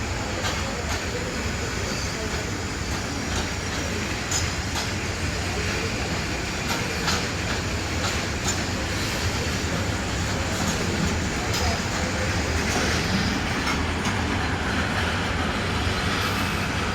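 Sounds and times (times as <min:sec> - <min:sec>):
train wheels rumbling on rails: 0:00.0 - 0:16.9
wheels clacking over rail joints: 0:00.2 - 0:16.9.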